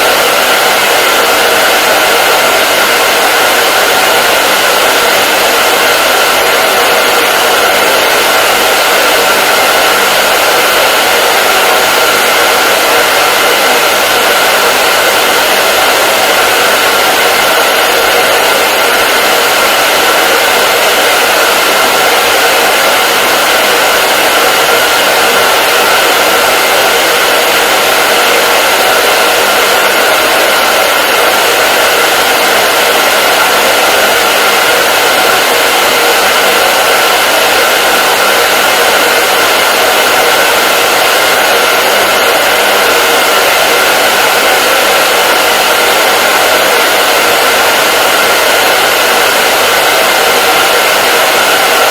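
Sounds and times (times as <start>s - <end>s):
hair dryer blowing: 0.0s - 51.9s.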